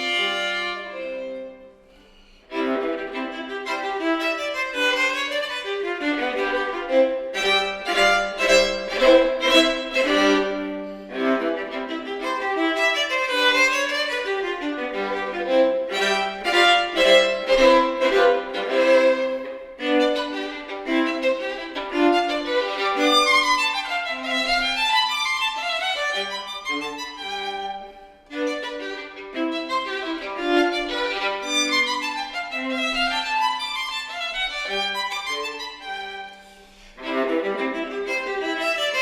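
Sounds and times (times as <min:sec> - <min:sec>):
violin and viola playing classical duo: 0:00.0 - 0:39.0.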